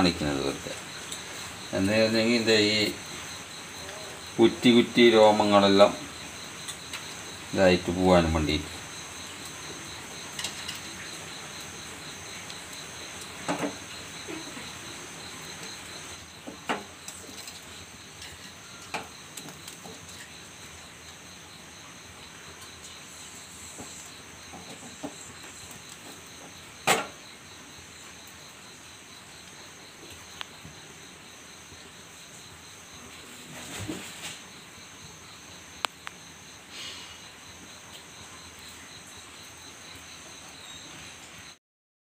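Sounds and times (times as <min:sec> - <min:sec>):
insects trilling: 0:00.0 - 0:41.6
low hiss: 0:00.0 - 0:41.6.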